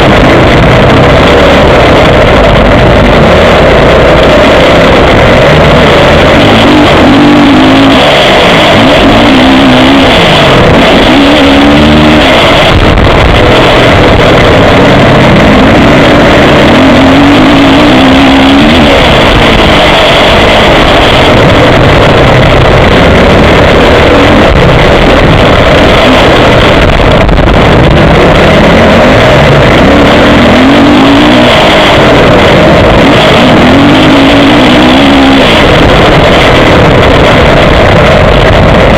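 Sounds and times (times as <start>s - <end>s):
dense rushing noise: 0.0s - 38.9s
motocross bike engine revving: 0.0s - 38.9s.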